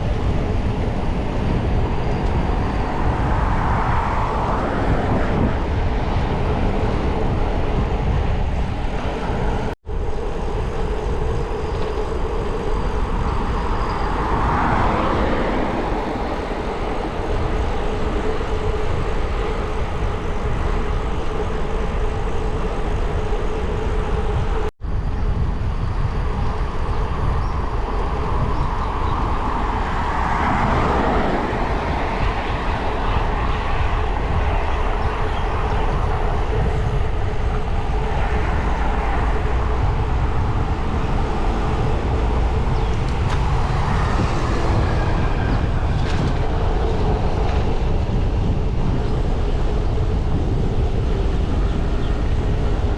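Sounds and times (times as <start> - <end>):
bicycle tyre road noise: 0.0 - 52.9
wind on microphone: 0.0 - 52.9.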